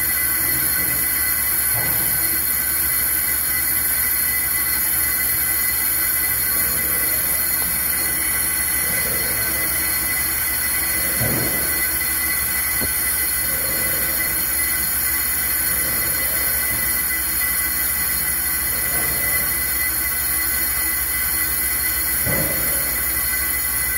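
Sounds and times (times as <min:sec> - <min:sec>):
brake lathe metallic squeal: 0:00.0 - 0:23.9
machine hum: 0:00.0 - 0:23.9.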